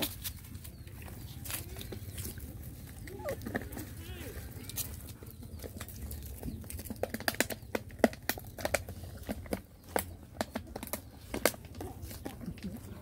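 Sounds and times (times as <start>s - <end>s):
dry leaves and twigs crackling: 0.0s - 13.0s.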